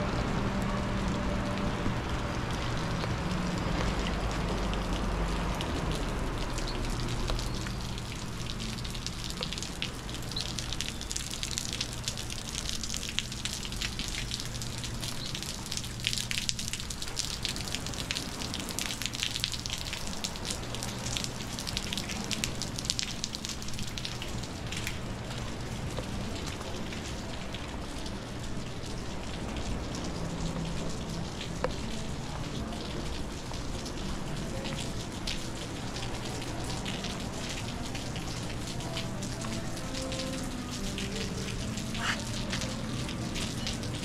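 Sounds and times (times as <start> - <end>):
rain falling: 0.0 - 44.0.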